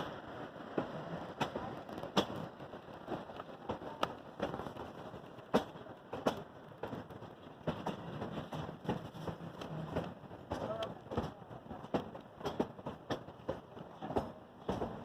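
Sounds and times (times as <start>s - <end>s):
railroad car rumble: 0.0s - 15.0s
train wheels clacking: 0.0s - 15.0s.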